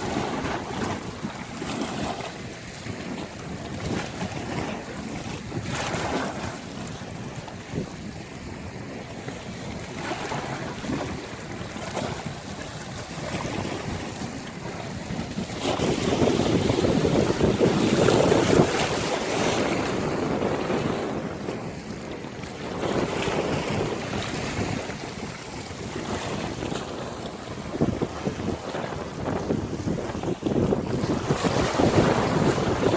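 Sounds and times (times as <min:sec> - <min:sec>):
sea waves breaking on beach: 0:00.0 - 0:32.9.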